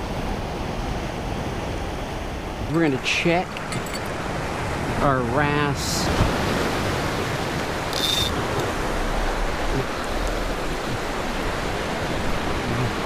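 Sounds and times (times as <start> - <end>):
waves breaking on rocks: 0.0 - 13.0.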